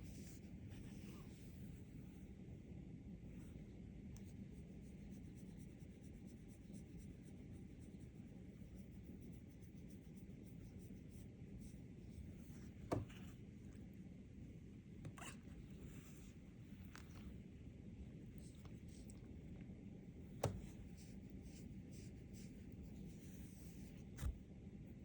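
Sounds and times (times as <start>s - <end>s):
faint low room hum: 0.0s - 25.0s.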